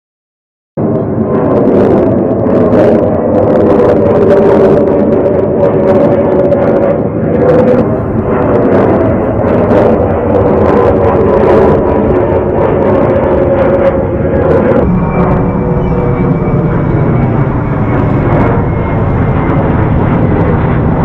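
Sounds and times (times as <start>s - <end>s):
wind buffeting microphone: 0.8s - 21.0s.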